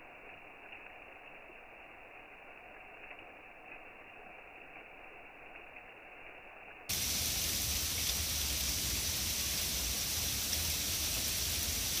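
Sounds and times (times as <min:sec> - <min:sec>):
rain and wet snow falling: 0:00.0 - 0:12.0.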